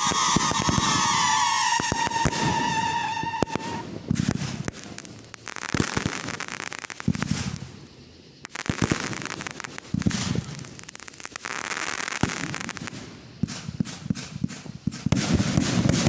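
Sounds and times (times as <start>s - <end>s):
deep firework bursts: 0.0s - 16.0s
firework crackling: 0.0s - 16.0s
firework whistling: 0.0s - 16.0s.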